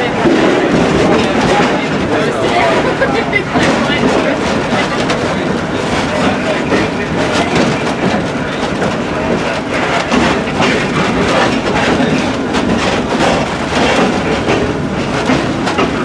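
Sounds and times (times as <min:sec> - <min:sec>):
train cars rumbling: 0:00.0 - 0:16.0
wheels clicking and rattling: 0:00.0 - 0:16.0.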